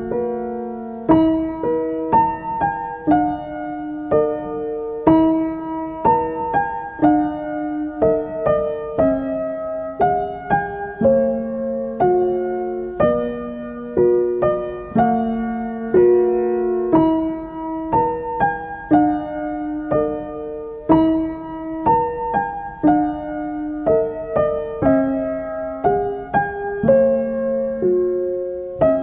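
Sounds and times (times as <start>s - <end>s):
gentle piano melody: 0.0s - 29.0s.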